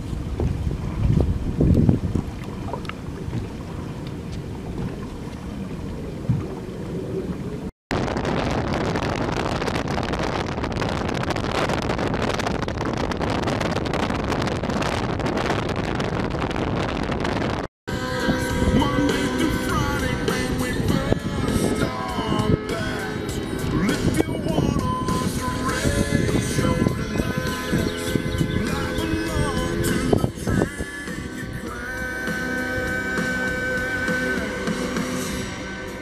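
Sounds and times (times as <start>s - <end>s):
boat rushing across water: 0.0s - 36.0s
wind buffeting microphone: 0.0s - 36.0s.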